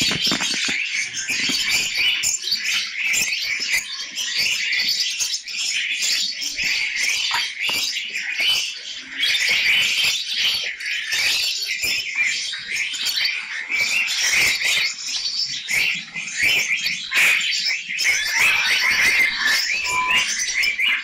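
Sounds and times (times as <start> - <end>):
parrots chirping and chattering: 0.0 - 21.0.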